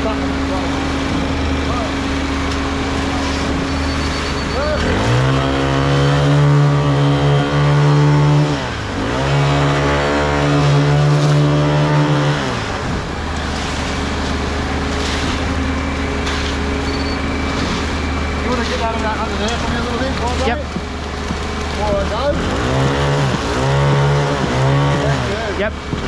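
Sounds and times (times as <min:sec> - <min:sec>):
heavy diesel engine revving: 0:00.0 - 0:26.0.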